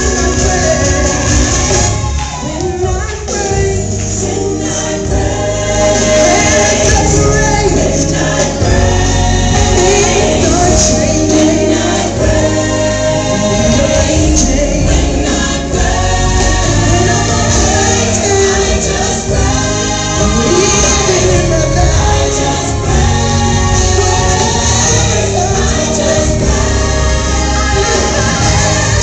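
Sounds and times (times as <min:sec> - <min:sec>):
band with heavy bass line: 0:00.0 - 0:29.0
choir singing: 0:00.0 - 0:29.0.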